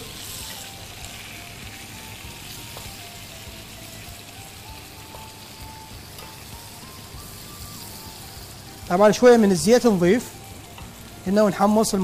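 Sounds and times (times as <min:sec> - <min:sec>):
soft slow background music: 0:00.0 - 0:12.0
vegetables sizzling in a pot: 0:00.0 - 0:12.0.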